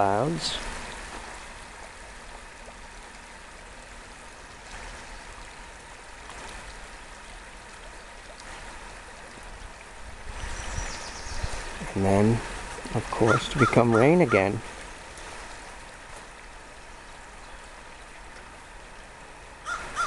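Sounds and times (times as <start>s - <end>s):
stream flowing: 0.0s - 20.0s.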